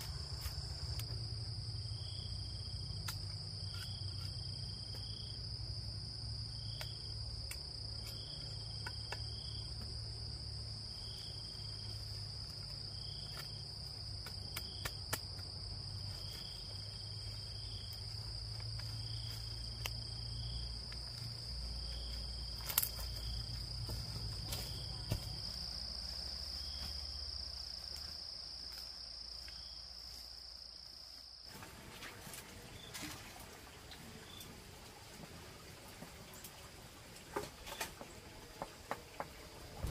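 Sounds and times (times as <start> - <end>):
insects droning and chirping: 0.0 - 39.9.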